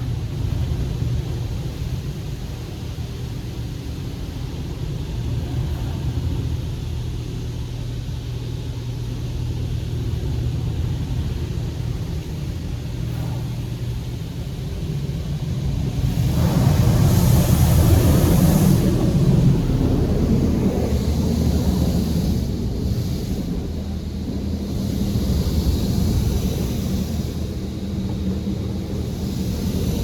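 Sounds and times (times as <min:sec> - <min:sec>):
car wash low rumble: 0:00.0 - 0:30.0
water jets hissing: 0:00.2 - 0:30.0.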